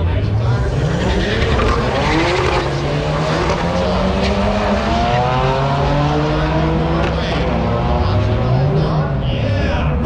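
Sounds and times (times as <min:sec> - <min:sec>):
engine pitch climbing: 0:00.0 - 0:10.0.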